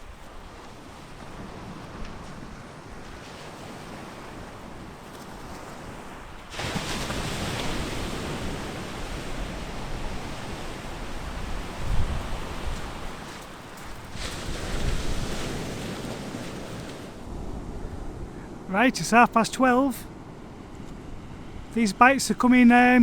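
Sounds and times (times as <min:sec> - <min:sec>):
wind on the microphone: 0:00.0 - 0:18.7
surf breaking on a beach: 0:00.0 - 0:23.0.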